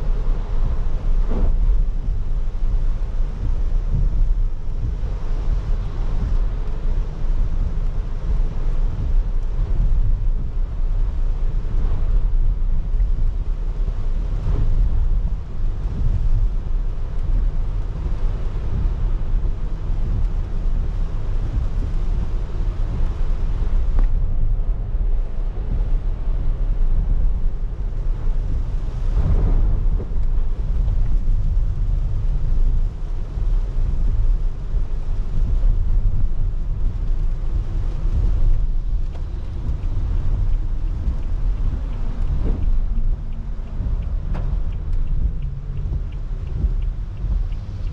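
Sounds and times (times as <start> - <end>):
rain and tyre spray hiss: 0.0 - 47.9
road rumble: 0.0 - 47.9.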